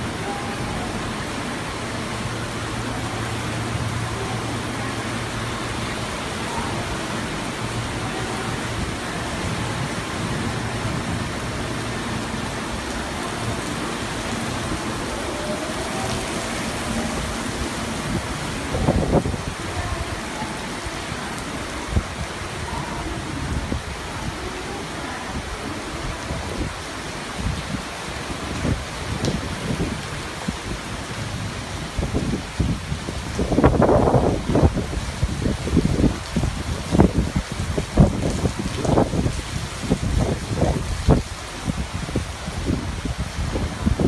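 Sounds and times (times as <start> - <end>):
torrential rain pouring: 0.0 - 44.0.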